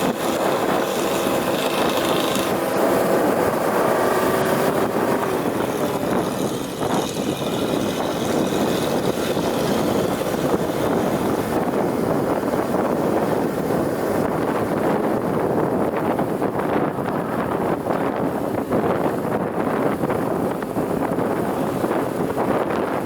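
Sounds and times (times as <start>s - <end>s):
truck engine rumbling: 0.0s - 23.0s.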